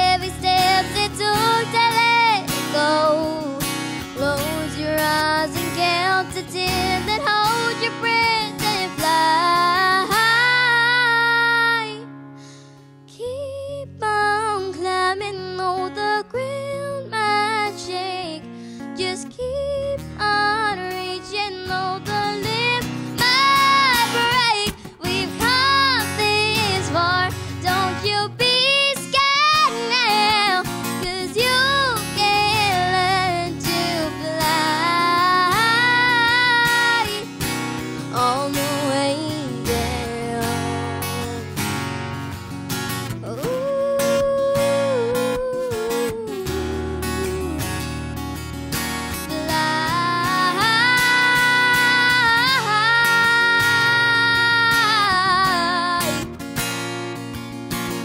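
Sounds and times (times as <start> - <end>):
girl singing: 0.0 - 41.6, 43.2 - 48.0, 49.1 - 56.4
acoustic guitar: 0.0 - 58.0.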